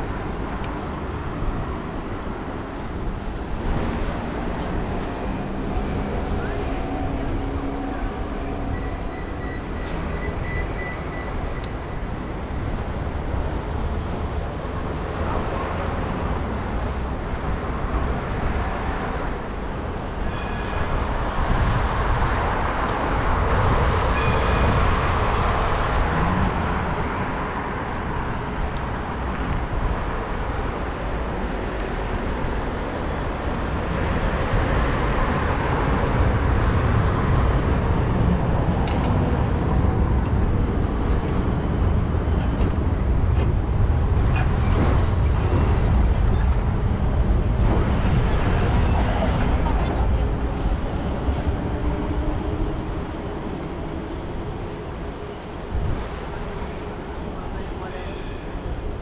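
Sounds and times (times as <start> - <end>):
cars passing: 0.0 - 57.8
low traffic rumble: 0.0 - 59.0.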